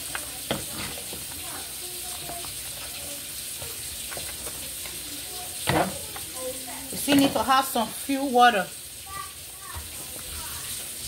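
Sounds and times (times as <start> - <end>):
soup simmering with sizzle: 0.0 - 11.0.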